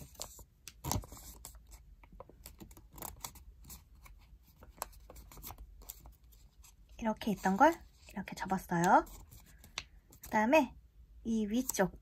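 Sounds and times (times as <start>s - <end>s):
paper crackling and rustling: 0.0s - 10.3s.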